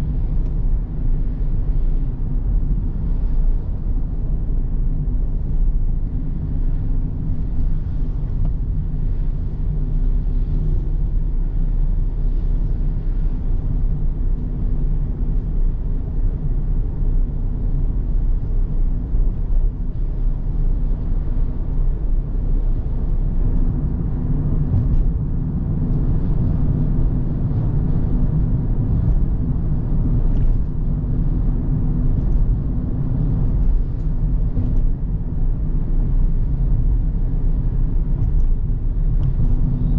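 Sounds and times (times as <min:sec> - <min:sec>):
car engine hum: 0:00.0 - 0:39.9
tyre and road rumble: 0:04.9 - 0:39.9.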